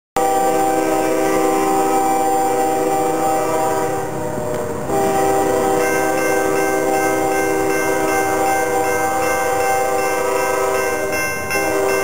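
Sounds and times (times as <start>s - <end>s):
locomotive air horn chord: 0.2s - 12.0s.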